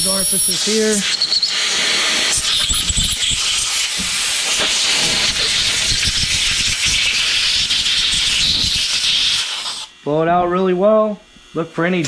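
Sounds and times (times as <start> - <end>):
compressed air hissing: 0.0 - 9.9.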